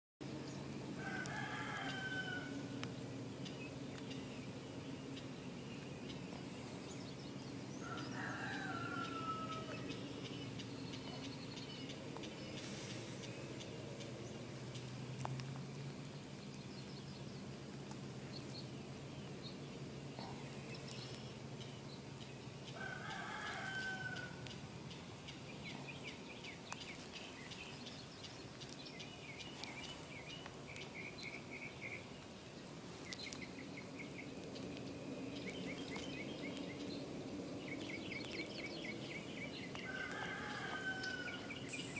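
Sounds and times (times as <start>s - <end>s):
low steady hum: 0.2s - 41.9s
bird calls: 1.0s - 15.4s, 18.2s - 41.9s.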